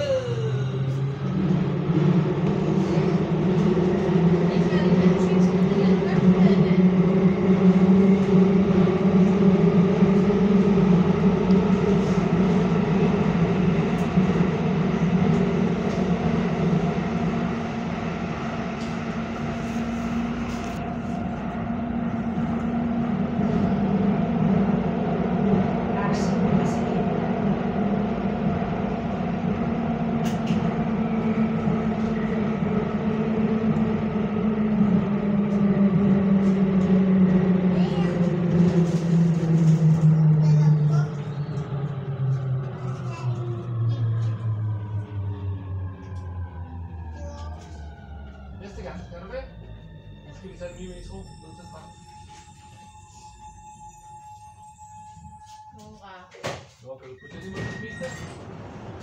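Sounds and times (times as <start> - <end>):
metro train rumbling in tunnel: 0.0 - 59.0.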